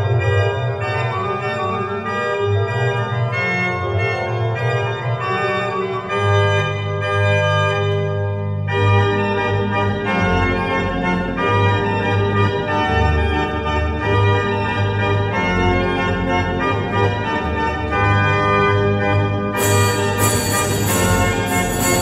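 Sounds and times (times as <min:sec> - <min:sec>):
pipe organ playing a dance: 0:00.0 - 0:22.0.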